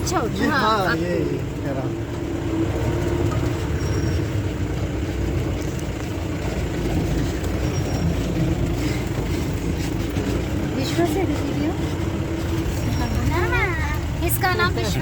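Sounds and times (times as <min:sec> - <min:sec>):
jeep engine rumble: 0:00.0 - 0:15.0
vehicle body rattle: 0:00.0 - 0:15.0.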